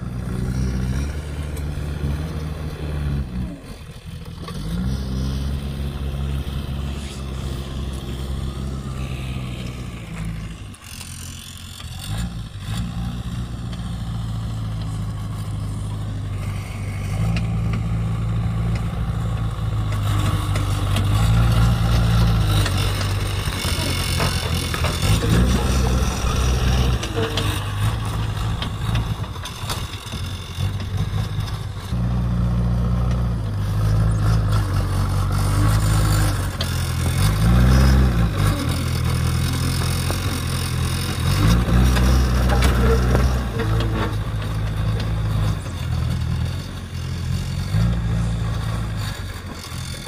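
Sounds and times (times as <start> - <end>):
backhoe diesel engine under load: 0.0 - 50.0.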